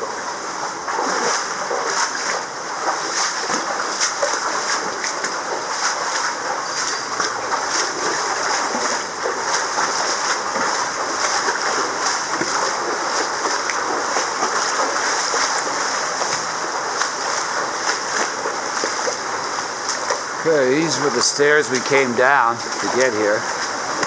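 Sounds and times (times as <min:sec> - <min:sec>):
flowing and falling water: 0:00.0 - 0:24.0.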